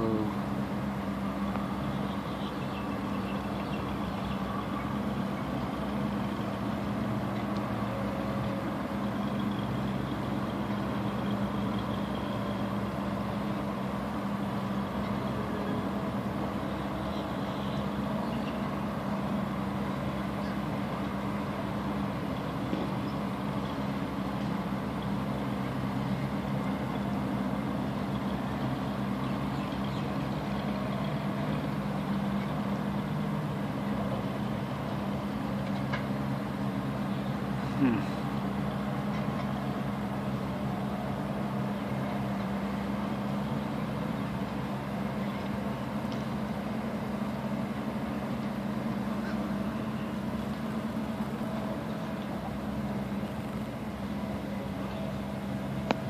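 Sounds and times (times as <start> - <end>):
engine idling drone: 0.0 - 56.0.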